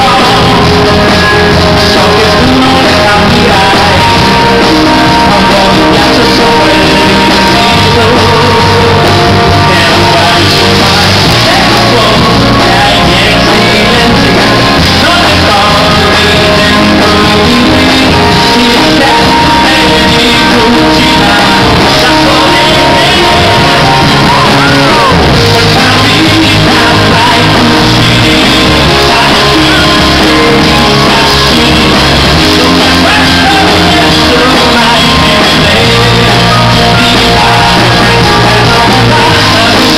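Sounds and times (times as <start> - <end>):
live band playing: 0.0 - 39.9
man singing into a microphone: 0.0 - 39.9.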